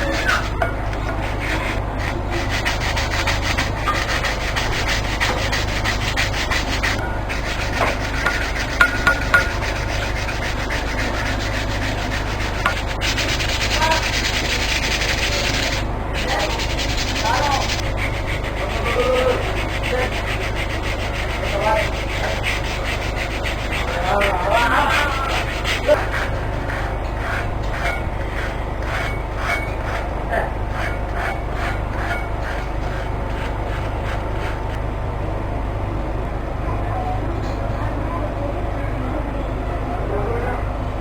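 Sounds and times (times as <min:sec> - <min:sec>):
wood being sanded: 0:00.0 - 0:34.8.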